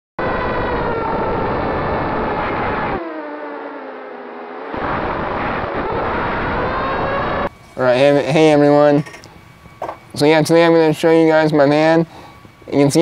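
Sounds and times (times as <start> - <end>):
drone motors and propellers whining: 0.2 - 13.0.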